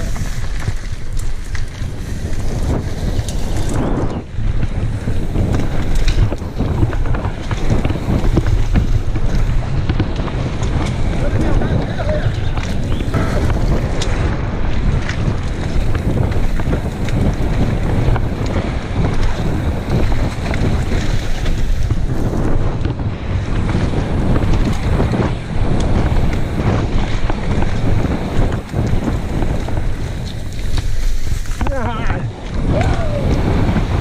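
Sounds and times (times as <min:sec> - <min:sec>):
bike clicks and rattles: 0:00.0 - 0:34.0
tyres rushing on gravel: 0:00.0 - 0:34.0
wind buffeting microphone: 0:00.0 - 0:34.0.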